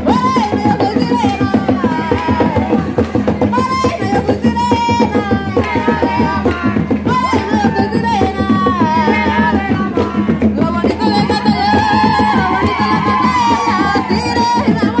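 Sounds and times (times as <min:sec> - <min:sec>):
fast hand drum beat: 0:00.0 - 0:15.0
woman singing: 0:00.0 - 0:15.0.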